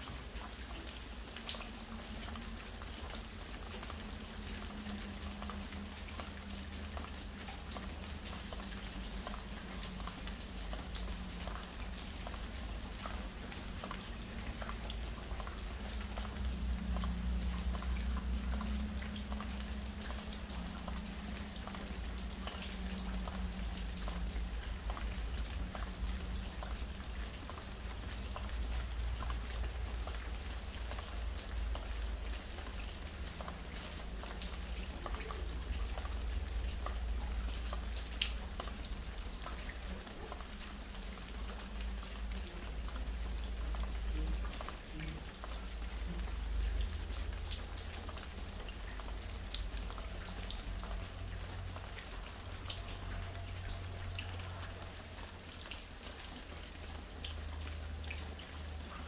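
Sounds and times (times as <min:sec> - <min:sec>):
light rain hiss: 0:00.0 - 0:59.0
water dripping from roof edge: 0:00.0 - 0:59.0.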